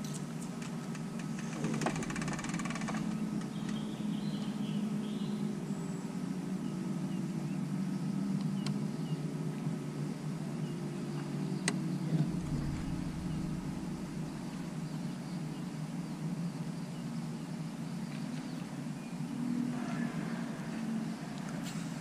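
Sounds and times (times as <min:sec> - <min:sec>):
electric trolling motor humming: 0:00.0 - 0:22.0.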